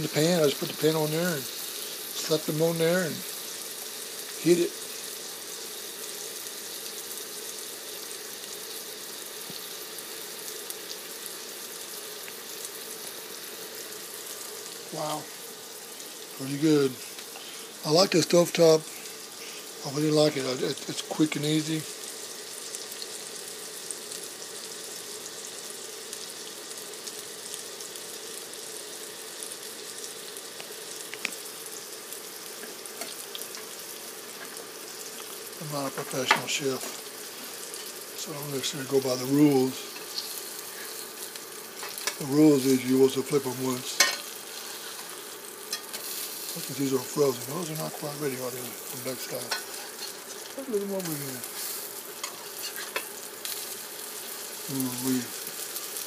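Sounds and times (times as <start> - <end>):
patties sizzling in a pan: 0.0 - 56.0.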